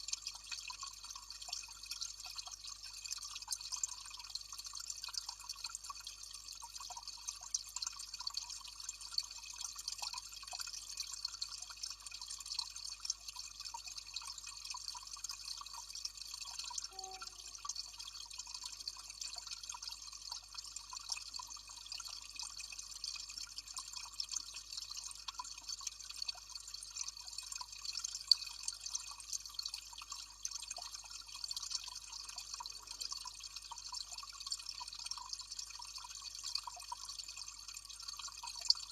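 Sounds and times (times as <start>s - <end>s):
water trickling and dripping: 0.0s - 38.9s.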